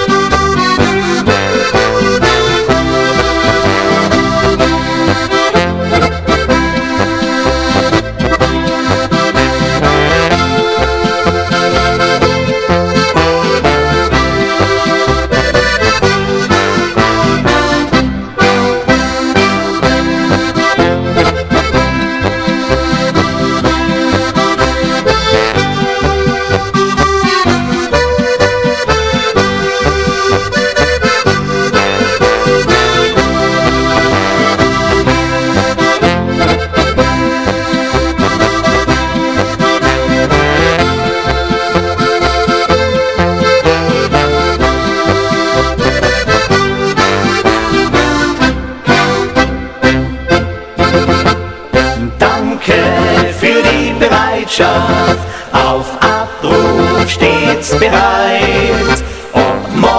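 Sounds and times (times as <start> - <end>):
accordion march music: 0.0 - 59.9.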